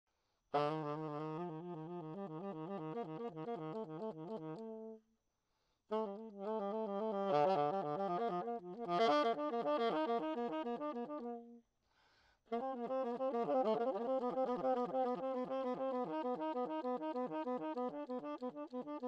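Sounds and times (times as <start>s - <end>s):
saxophone improvising fast runs: 0.6s - 4.9s, 5.9s - 11.5s, 12.5s - 19.0s.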